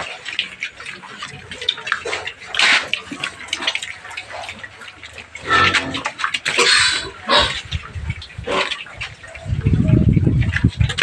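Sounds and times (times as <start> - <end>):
piglets grunting and squealing: 0.0 - 10.0.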